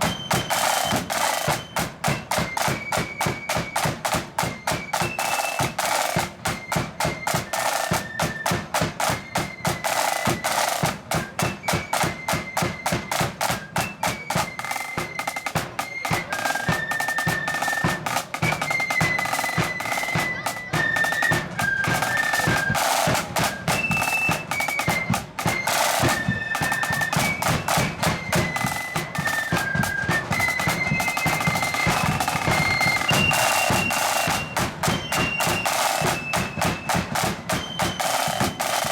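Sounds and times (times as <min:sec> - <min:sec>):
shrill flutes playing melody: 0:00.0 - 0:38.9
snare drum rolls: 0:00.0 - 0:38.9.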